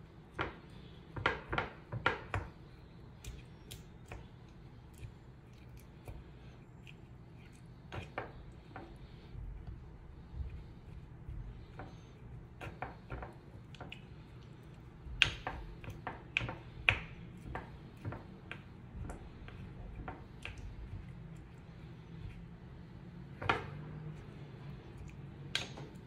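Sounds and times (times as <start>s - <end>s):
spoon mashing wet food: 0.1s - 26.0s.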